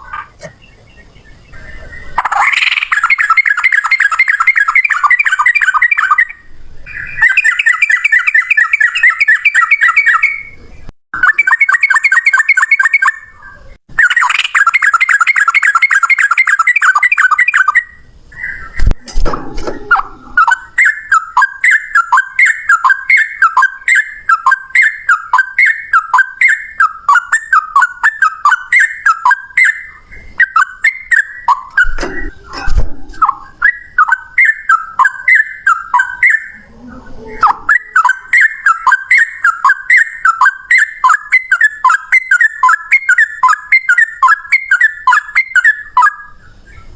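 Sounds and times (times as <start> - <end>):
bird singing whistled trills: 0.1 - 18.9, 19.8 - 46.9.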